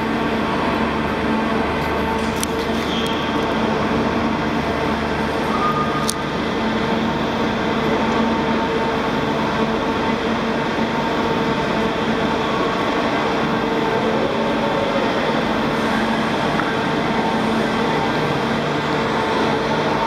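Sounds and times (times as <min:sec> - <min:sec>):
diesel engine and hydraulics droning: 0:00.0 - 0:20.0.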